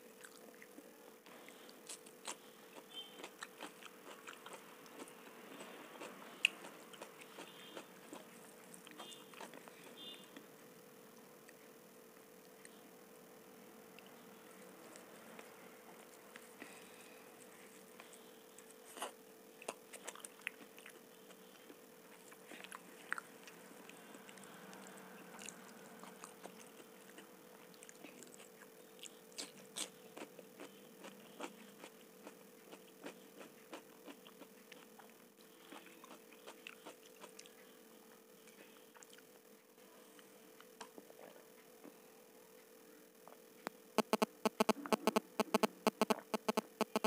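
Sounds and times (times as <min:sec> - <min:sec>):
close chewing of soft food: 0:00.0 - 0:10.2, 0:14.0 - 0:42.0
low steady hum: 0:00.0 - 0:47.0.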